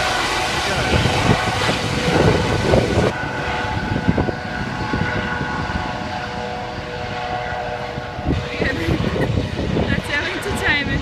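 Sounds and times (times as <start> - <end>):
helicopter flying low overhead: 0.0 - 11.0.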